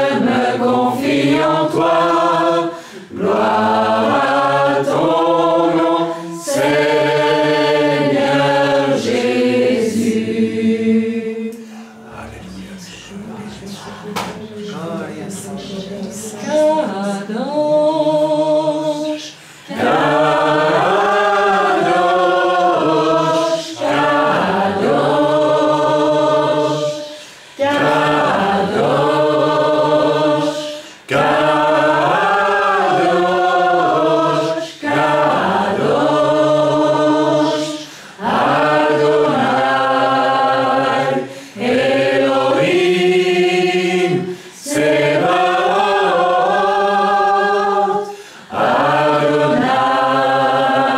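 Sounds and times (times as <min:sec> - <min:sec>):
group of voices singing: 0:00.0 - 0:50.9.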